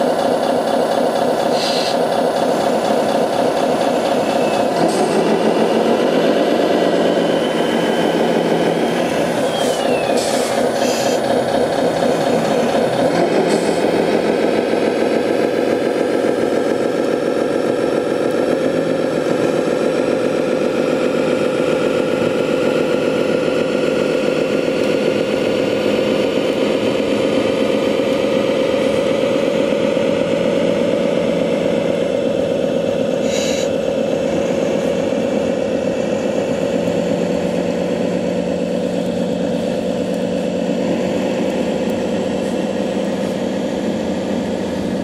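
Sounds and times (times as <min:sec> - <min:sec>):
model truck motor drone: 0:00.0 - 0:45.0.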